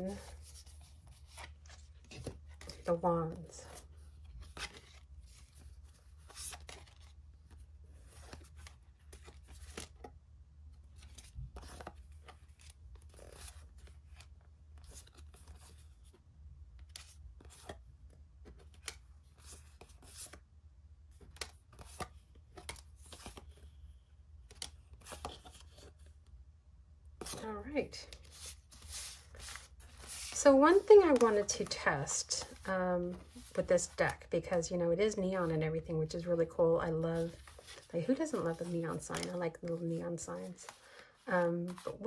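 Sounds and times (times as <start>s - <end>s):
cards being shuffled: 0.0s - 10.1s, 10.8s - 20.4s, 21.1s - 23.8s, 24.4s - 26.2s, 27.2s - 27.4s, 28.0s - 34.3s, 36.9s - 41.0s, 41.6s - 42.0s.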